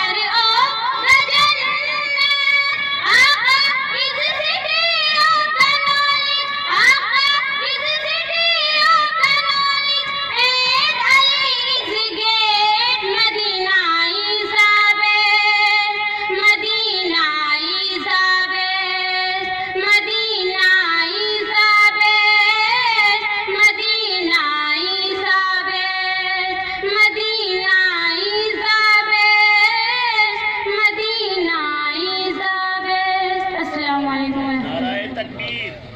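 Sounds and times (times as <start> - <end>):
child singing into a microphone: 0.0 - 34.6.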